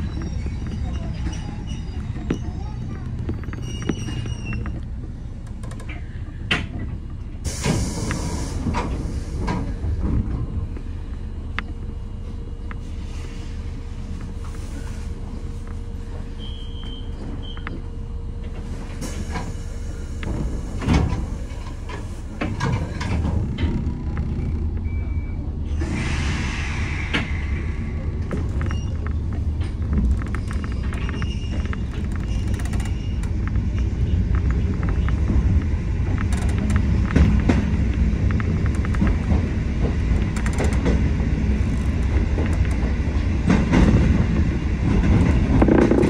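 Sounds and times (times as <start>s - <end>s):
electric train low hum: 0.0s - 46.0s.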